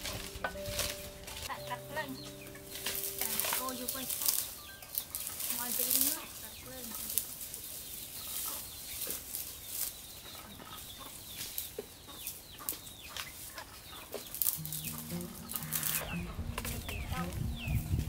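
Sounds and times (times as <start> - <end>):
chickens clucking: 0.0 - 18.0
twigs rustling and crackling: 0.0 - 18.0.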